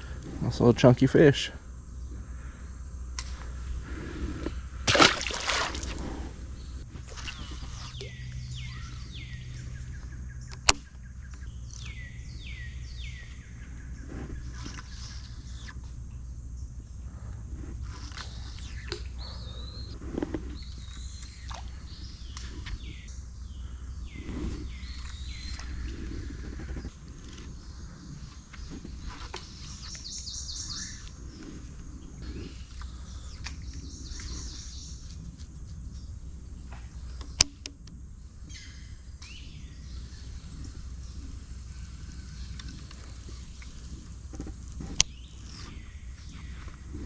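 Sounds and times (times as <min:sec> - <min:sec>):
steady low rumble: 0:00.0 - 0:14.6, 0:15.3 - 0:47.0
birds chirping: 0:00.0 - 0:47.0.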